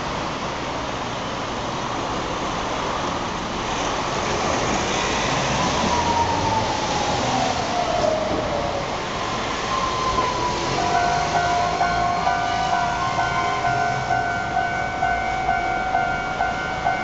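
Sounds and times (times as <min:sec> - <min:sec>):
cars and vans passing: 0:00.0 - 0:17.0.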